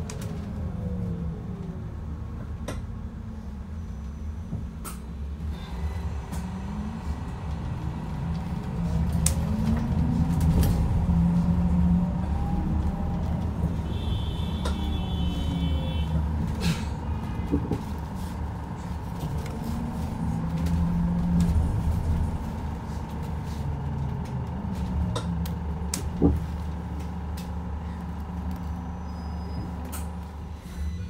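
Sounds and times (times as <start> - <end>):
road rumble: 0.0 - 31.0.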